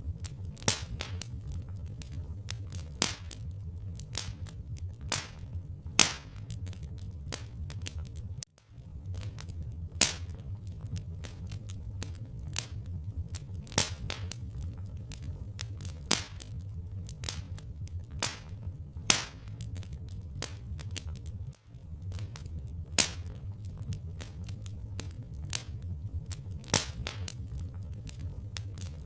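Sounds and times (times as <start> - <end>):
log fire crackling: 0.0 - 29.0
sharp fire pops: 0.0 - 29.0
steady low rumble: 0.0 - 29.0.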